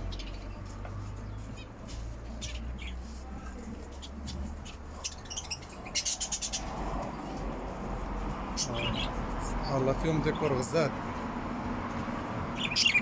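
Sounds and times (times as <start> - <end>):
canaries chirping: 0.0 - 11.0, 12.4 - 13.0.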